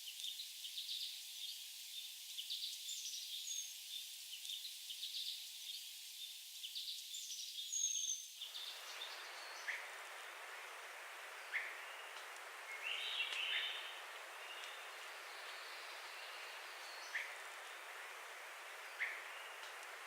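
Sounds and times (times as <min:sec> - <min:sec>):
small birds chirping: 0:00.0 - 0:20.0
steady hiss: 0:00.0 - 0:20.0.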